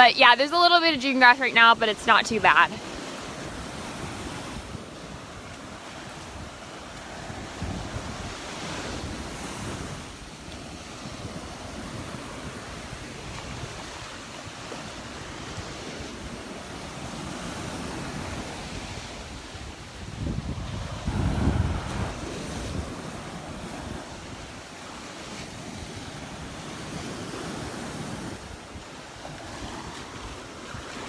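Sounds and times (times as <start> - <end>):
surf washing onto beach: 0.0 - 31.0
wind buffeting microphone: 0.0 - 31.0.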